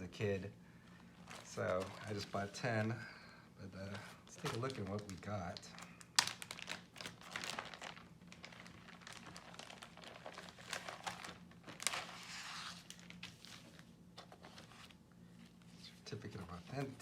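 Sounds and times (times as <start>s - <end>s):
packaging crinkling and rustling: 0.9s - 2.9s, 3.8s - 17.0s.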